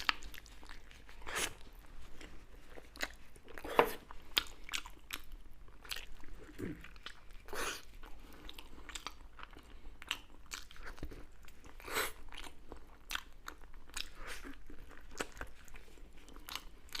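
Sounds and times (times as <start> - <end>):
crunchy food being chewed: 0.0 - 17.0.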